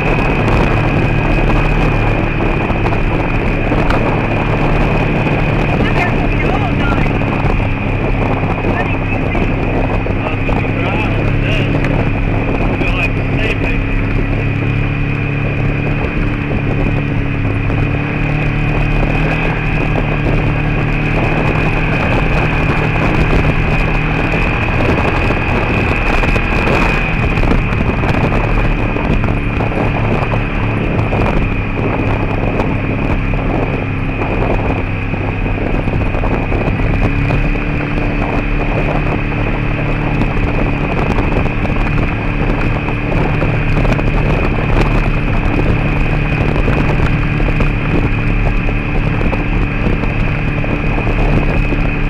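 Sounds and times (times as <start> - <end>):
steady high whine: 0.0 - 52.0
vehicle engine cruising: 0.0 - 52.0
wind noise: 0.0 - 52.0.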